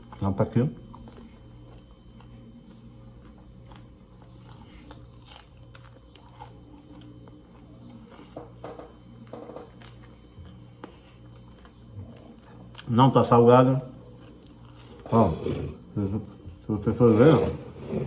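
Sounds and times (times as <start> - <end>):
faint low hum: 0.0 - 18.0
man chewing food: 0.0 - 18.0.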